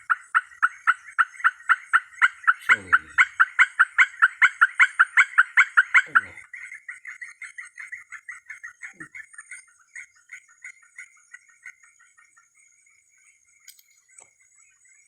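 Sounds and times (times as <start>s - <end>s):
chirping animal calls: 0.0s - 12.5s.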